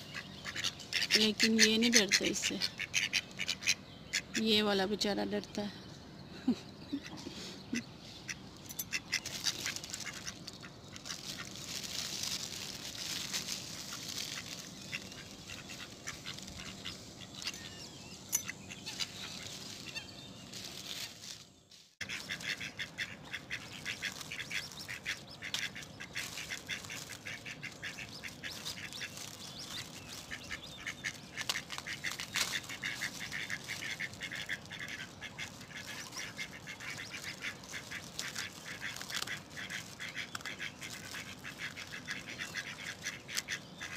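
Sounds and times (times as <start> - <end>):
mallard ducks quacking: 0.0 - 4.6, 7.0 - 11.6, 12.8 - 20.1, 22.0 - 43.9.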